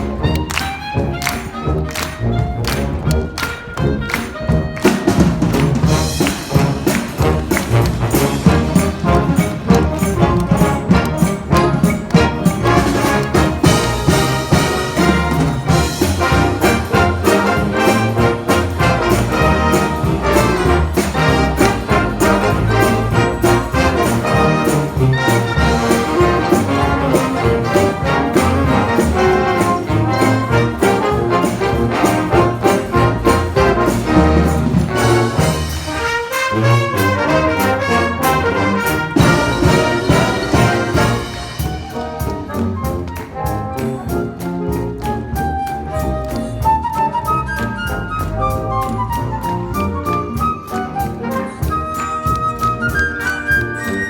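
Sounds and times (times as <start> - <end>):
trumpets and trombones: 0.0 - 54.0
wind band playing: 0.0 - 54.0.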